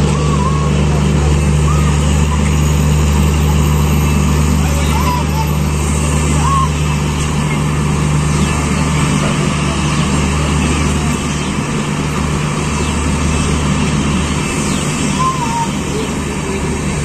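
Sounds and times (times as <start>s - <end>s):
passenger train rumbling: 0.0s - 17.0s.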